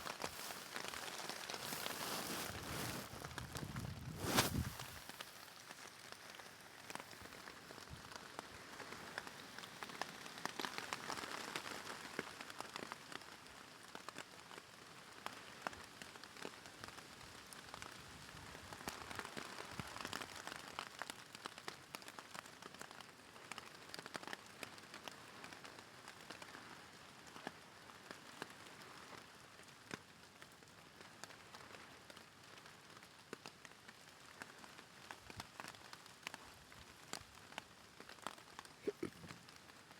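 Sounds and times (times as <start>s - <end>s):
rain on plastic sheeting: 0.0s - 39.9s.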